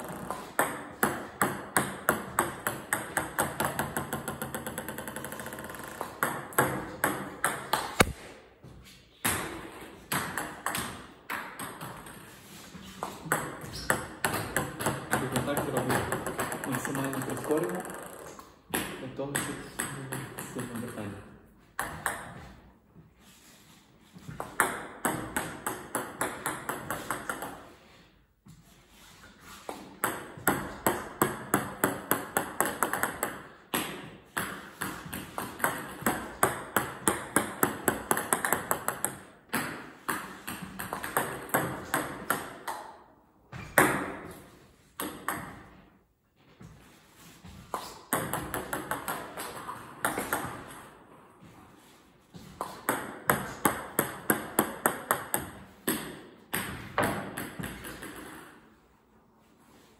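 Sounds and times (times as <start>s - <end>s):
table tennis ball bouncing: 0.0s - 8.3s, 9.2s - 22.7s, 24.2s - 27.9s, 29.7s - 46.0s, 47.4s - 51.5s, 52.3s - 58.8s.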